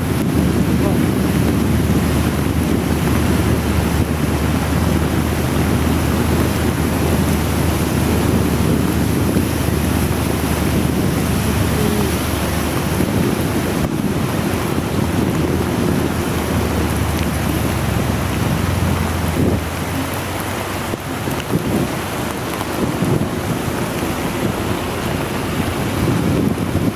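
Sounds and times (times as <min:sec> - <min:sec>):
heavy rain: 0:00.0 - 0:26.9
wind buffeting microphone: 0:00.0 - 0:26.9.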